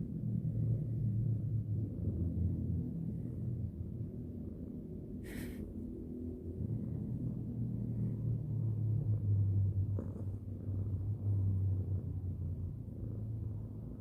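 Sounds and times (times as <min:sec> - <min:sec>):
cat purring: 0:00.2 - 0:14.0.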